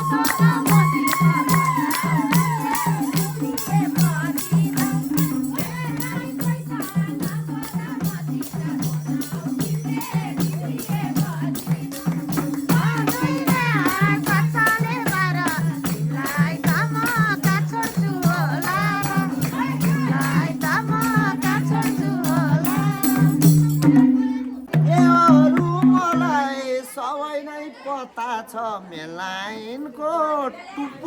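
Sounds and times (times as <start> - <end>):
quick percussion beat: 0.0 - 26.6.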